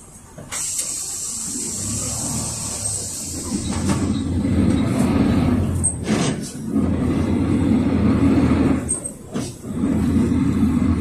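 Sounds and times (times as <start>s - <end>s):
diesel bus engine rumble: 0.0s - 11.0s.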